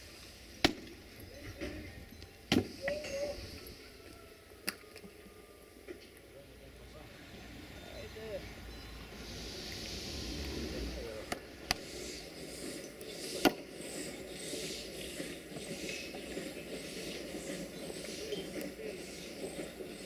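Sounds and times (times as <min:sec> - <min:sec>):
steam locomotive hissing: 0:00.0 - 0:05.7, 0:06.8 - 0:20.0.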